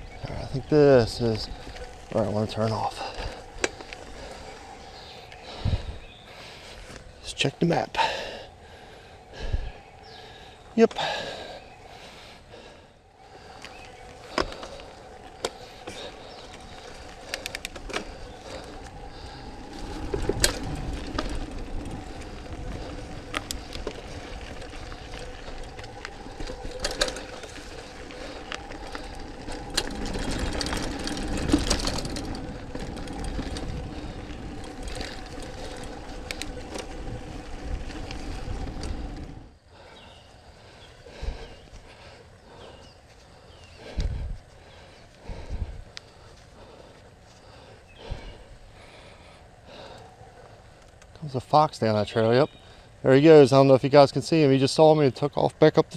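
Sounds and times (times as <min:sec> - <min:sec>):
bike rattling over bumps: 0:00.0 - 0:55.9
bike tyre rumble on dirt: 0:00.0 - 0:55.9
wind: 0:00.0 - 0:55.9.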